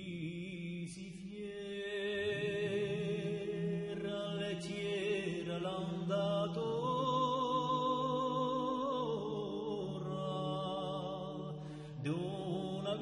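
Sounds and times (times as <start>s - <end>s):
low sustained vocal note: 1.4s - 13.0s
men singing close harmony: 1.4s - 13.0s.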